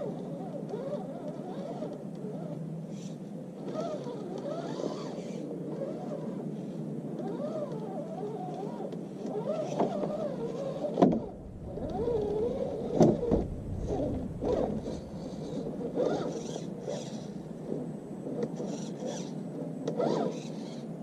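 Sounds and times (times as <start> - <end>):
electric motor whining: 0.0 - 20.9.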